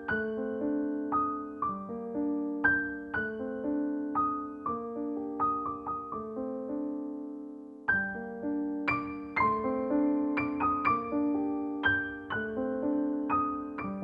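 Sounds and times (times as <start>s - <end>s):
slow solo piano melody: 0.0s - 14.0s.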